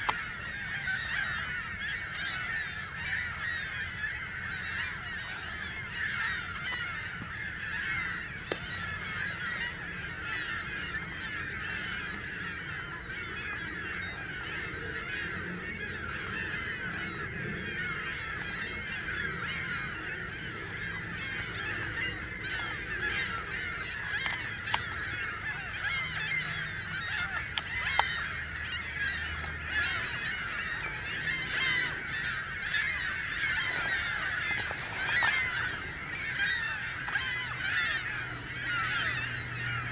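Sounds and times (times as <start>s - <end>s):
flock of waterfowl honking: 0.0s - 39.9s.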